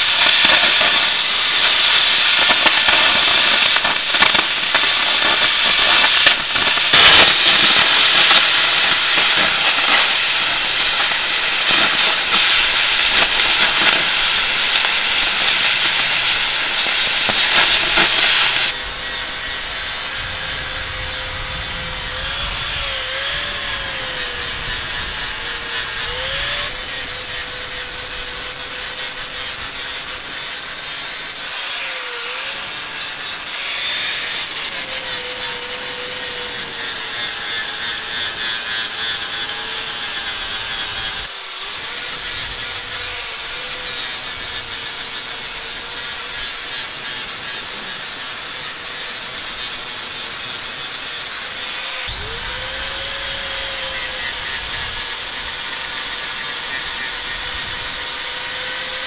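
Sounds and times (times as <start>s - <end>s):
angle grinder grinding steel: 0.0s - 59.0s
cutting torch hissing: 0.0s - 59.0s.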